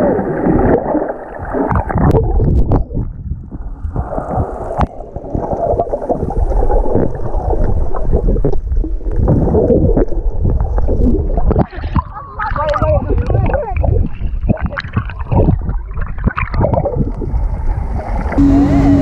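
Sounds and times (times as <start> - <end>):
bubbles gurgling: 0.0 - 18.4
water churning underwater: 0.0 - 19.0.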